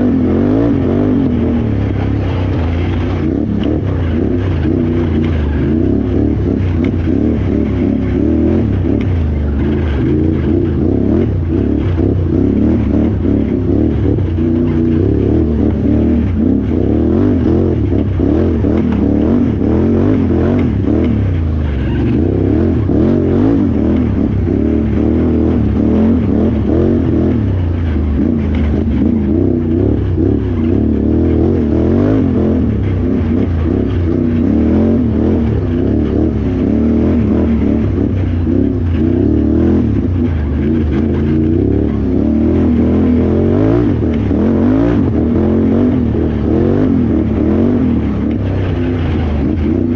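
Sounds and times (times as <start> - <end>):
atv engine revving: 0.0 - 49.9.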